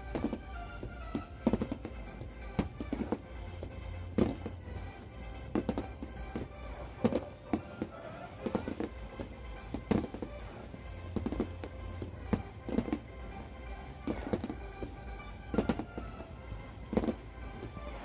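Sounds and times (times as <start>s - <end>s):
loud show music: 0.0s - 18.0s.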